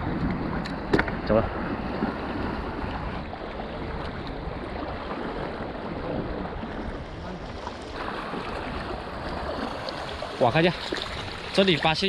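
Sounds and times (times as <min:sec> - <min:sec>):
seawater moving along rocky shore: 0:00.0 - 0:12.0
wind rumble on microphone: 0:00.0 - 0:12.0.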